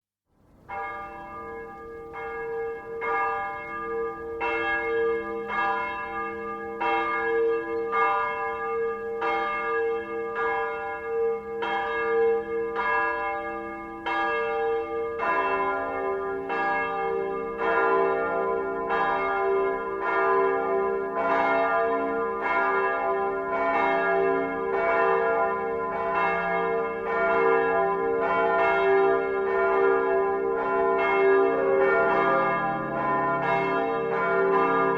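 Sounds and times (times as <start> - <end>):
large church bell ringing: 0.6 - 34.9.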